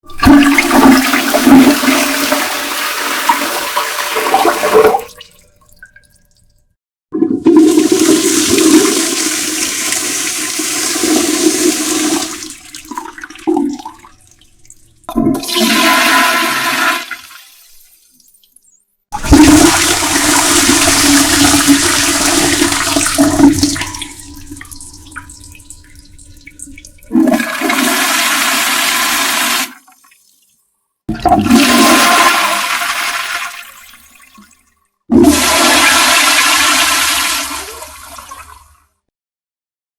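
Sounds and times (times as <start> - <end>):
toilet flushing: 0.0 - 5.6, 7.2 - 17.8, 19.2 - 30.0, 31.1 - 34.4, 35.1 - 38.8.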